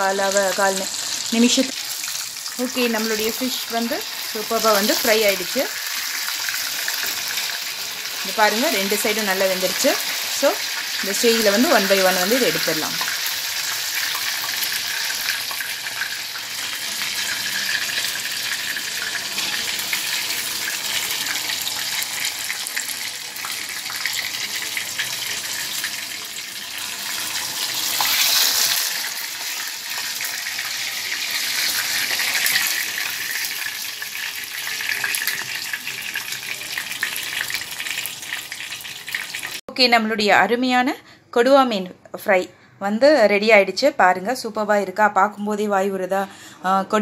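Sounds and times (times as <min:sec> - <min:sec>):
fish sizzling in hot oil: 0:00.0 - 0:39.6.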